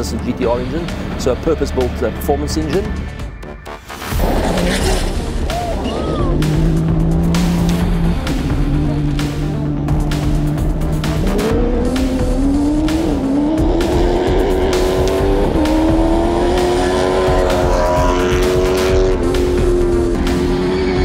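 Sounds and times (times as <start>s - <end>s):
background music: 0.0s - 21.0s
rally car engine revving: 4.0s - 21.0s.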